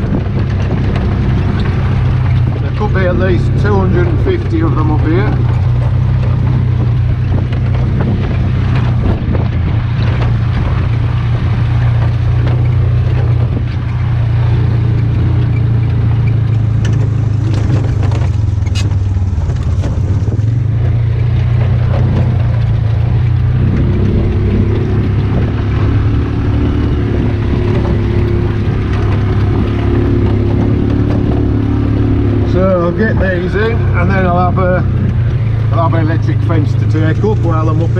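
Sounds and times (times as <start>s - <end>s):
utility vehicle engine driving: 0.0s - 37.9s.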